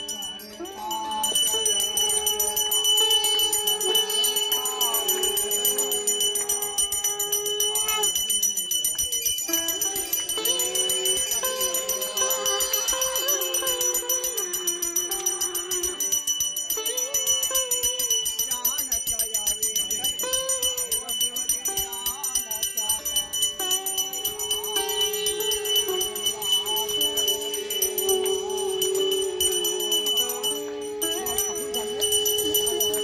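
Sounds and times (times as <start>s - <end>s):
brass hand bell ringing rapidly: 0.0s - 33.0s
melody: 0.0s - 33.0s.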